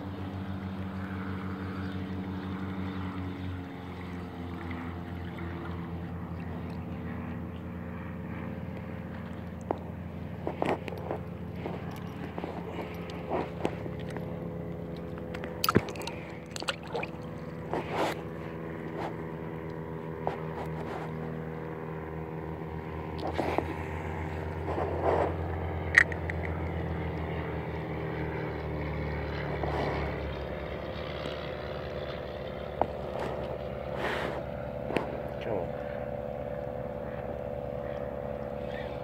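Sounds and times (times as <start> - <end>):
small boat motor humming: 0.0 - 39.0.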